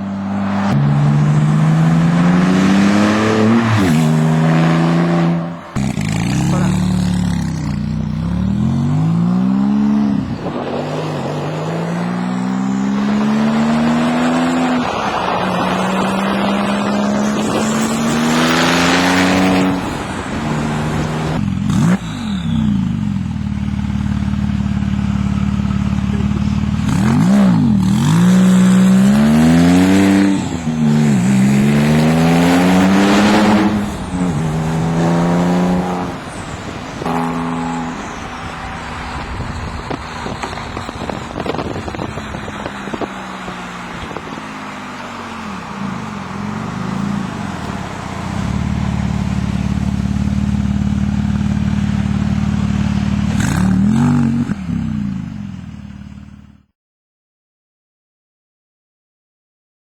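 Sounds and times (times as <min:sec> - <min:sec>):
car engine accelerating through gears: 0:00.0 - 0:56.4.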